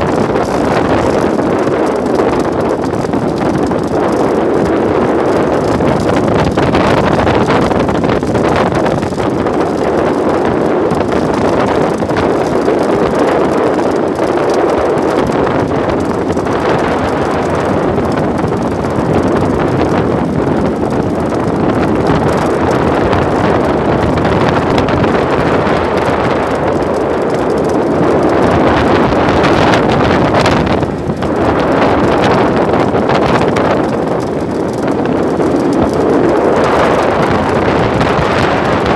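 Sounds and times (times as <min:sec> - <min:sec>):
small boat motor running: 0:00.0 - 0:38.9
wind buffeting microphone: 0:00.0 - 0:38.9.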